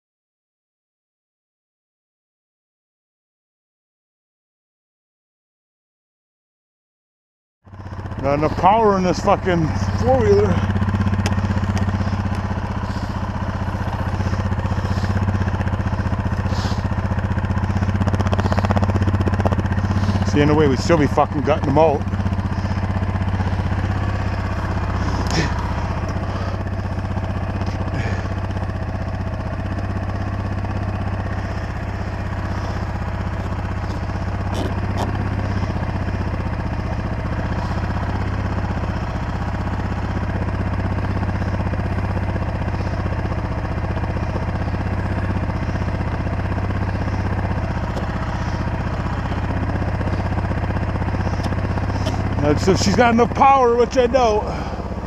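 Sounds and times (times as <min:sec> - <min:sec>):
atv engine running: 0:07.7 - 0:55.0.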